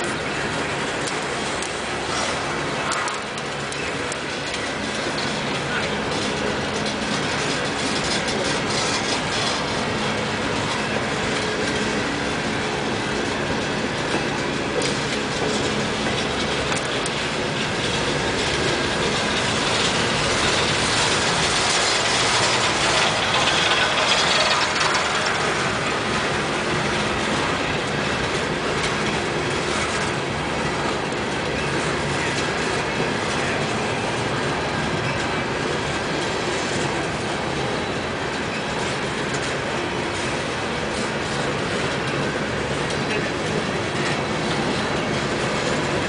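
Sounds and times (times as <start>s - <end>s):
freight train wheels rumbling on rails: 0.0s - 46.0s.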